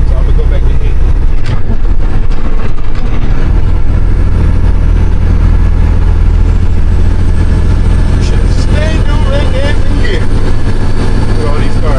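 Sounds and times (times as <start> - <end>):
diesel truck engine droning: 0.0 - 11.9.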